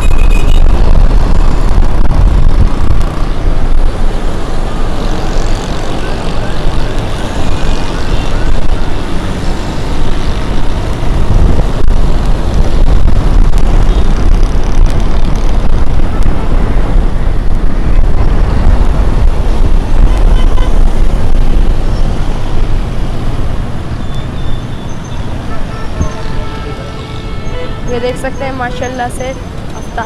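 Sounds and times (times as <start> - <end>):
motorcycle and car traffic hum: 0.0 - 30.0
road noise: 0.0 - 30.0
wind buffeting microphone: 0.0 - 30.0.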